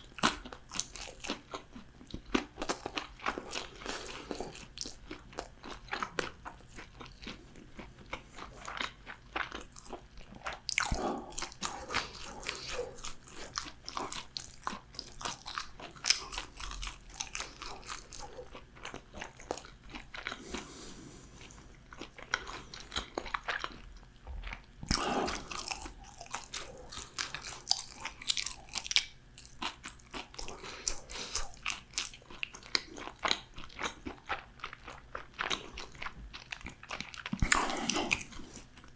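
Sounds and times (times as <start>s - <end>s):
crunching and chewing fried food: 0.0s - 38.9s.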